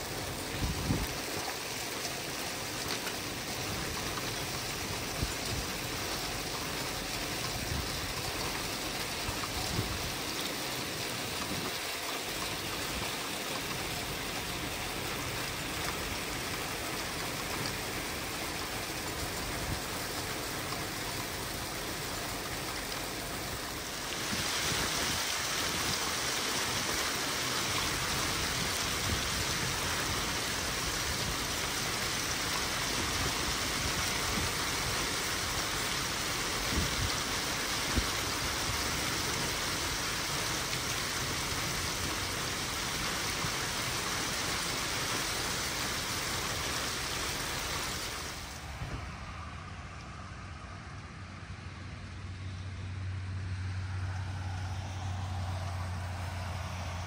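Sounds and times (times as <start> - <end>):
hail and rain on pavement: 0.0 - 48.6.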